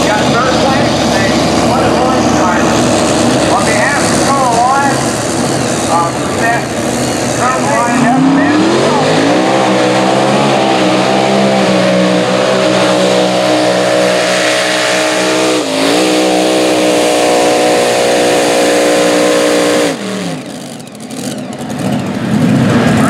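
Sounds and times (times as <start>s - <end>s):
tractor engine at full throttle: 0.0s - 23.0s.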